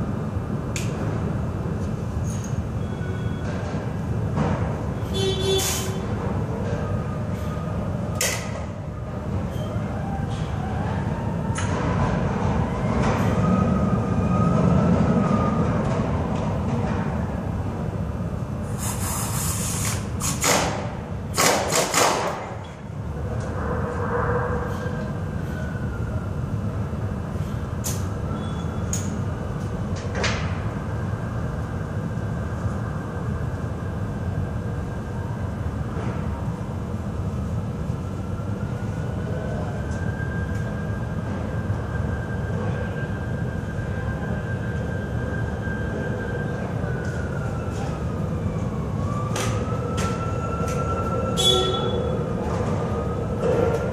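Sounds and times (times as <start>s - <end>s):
machinery whining and rumbling: 0.0s - 53.9s.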